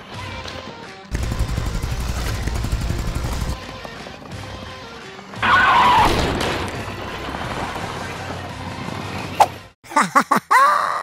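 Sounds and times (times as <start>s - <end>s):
background music: 0.0s - 9.8s.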